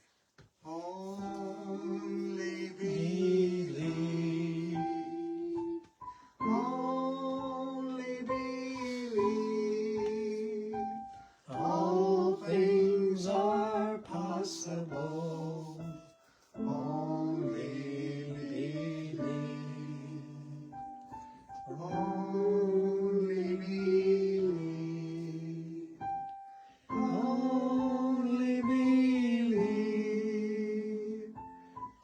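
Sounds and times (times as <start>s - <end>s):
person singing: 0.6s - 31.7s.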